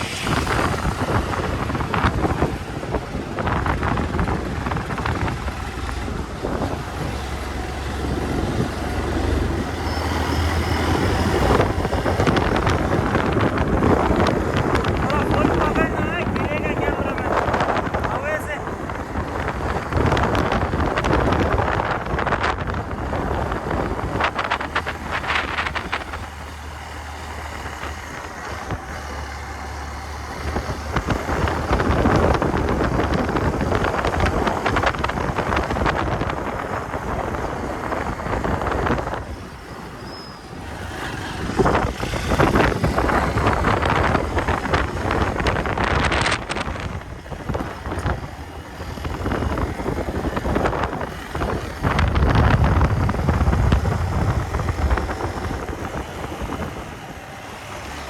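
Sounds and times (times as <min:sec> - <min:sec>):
motorcycle engine: 0:00.0 - 0:58.0
wind buffeting microphone: 0:00.0 - 0:58.0.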